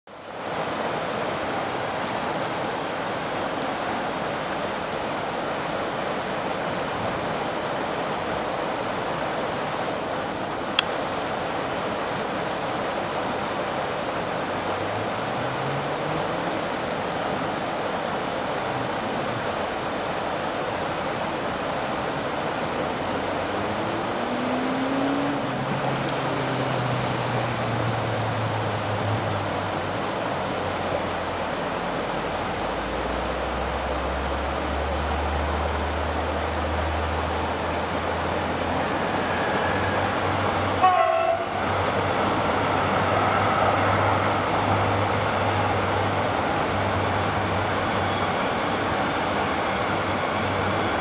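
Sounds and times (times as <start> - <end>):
flowing stream: 0.0 - 51.0.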